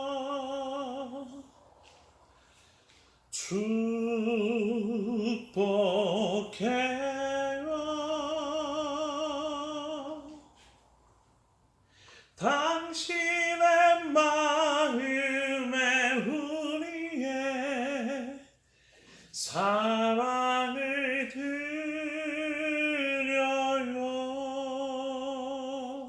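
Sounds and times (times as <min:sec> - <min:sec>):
person singing without accompaniment: 0:00.0 - 0:10.8, 0:12.1 - 0:18.6, 0:19.2 - 0:26.0.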